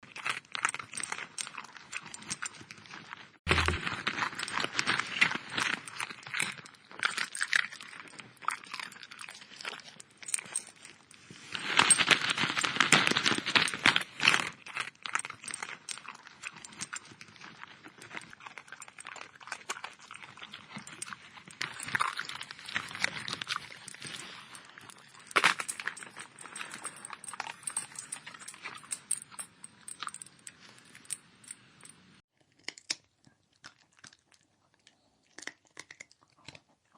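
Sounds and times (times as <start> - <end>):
dog chewing and crunching: 0.0 - 31.2, 32.4 - 36.9.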